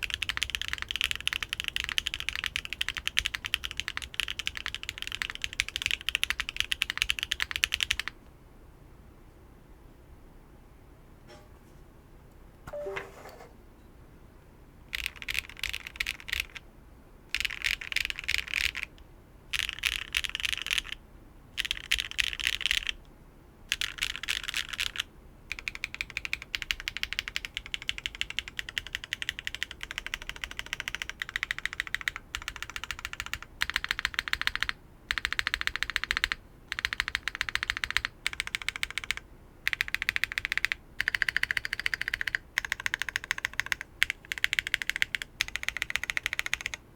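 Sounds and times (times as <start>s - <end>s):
mechanical keyboard typing: 0.0s - 8.2s, 14.9s - 16.6s, 17.3s - 21.0s, 21.6s - 23.0s, 23.7s - 46.8s.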